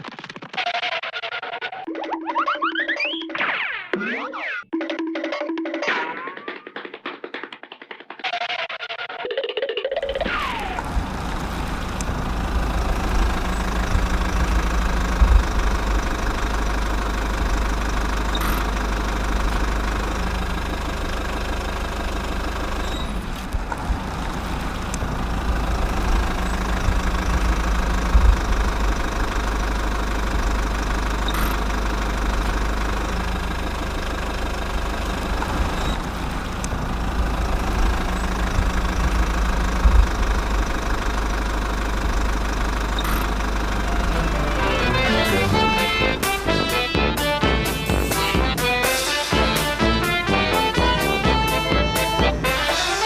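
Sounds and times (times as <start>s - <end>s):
tractor engine idling: 10.0s - 53.0s.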